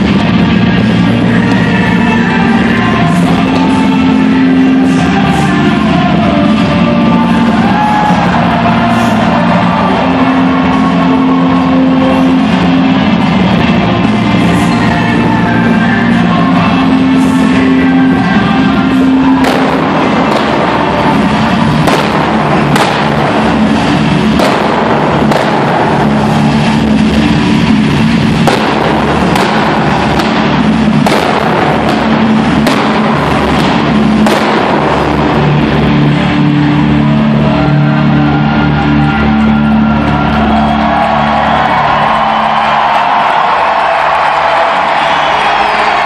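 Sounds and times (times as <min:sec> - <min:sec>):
indoor fireworks bangs: 0:00.0 - 0:46.0
loud rock music: 0:00.0 - 0:46.0.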